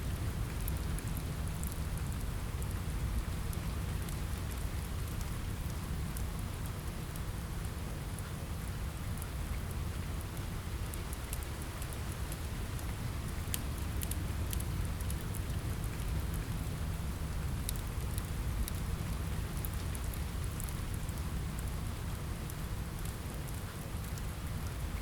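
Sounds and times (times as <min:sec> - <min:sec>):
rain on a window: 0:00.0 - 0:25.0
wood fire crackling: 0:00.1 - 0:25.0.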